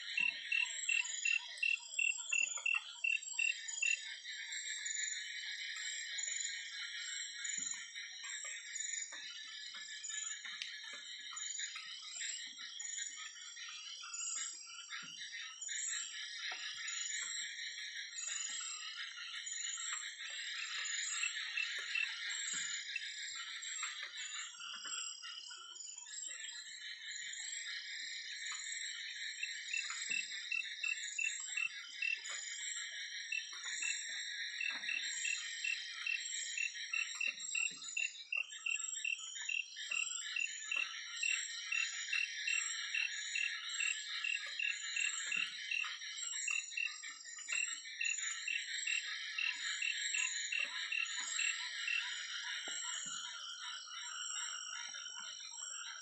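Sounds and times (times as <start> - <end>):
frogs and insects calling: 0.0 - 56.0.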